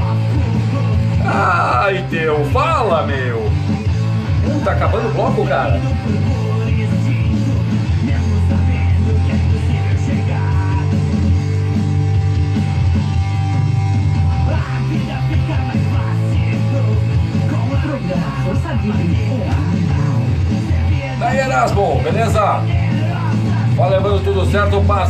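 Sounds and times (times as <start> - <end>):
loud rock music: 0.0 - 25.0.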